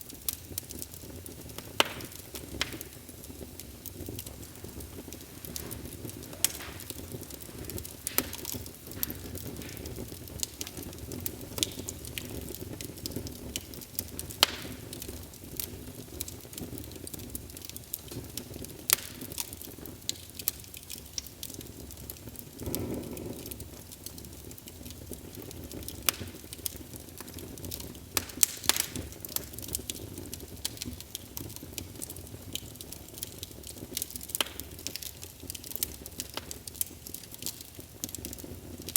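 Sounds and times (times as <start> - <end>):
fire popping and crackling: 0.0 - 38.9
fire rumbling: 0.0 - 38.9.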